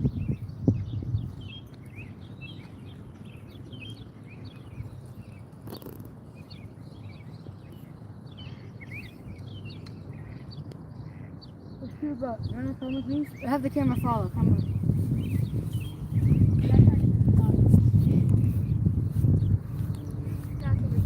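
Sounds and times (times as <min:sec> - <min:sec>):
small birds chirping: 0:00.0 - 0:21.0
low outdoor rumble: 0:02.8 - 0:21.0.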